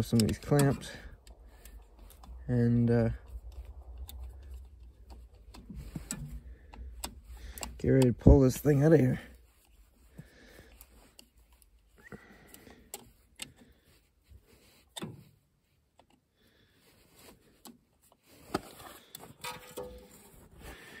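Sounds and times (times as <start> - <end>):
hand tool clicking and scraping: 0.0 - 16.3, 17.0 - 21.0.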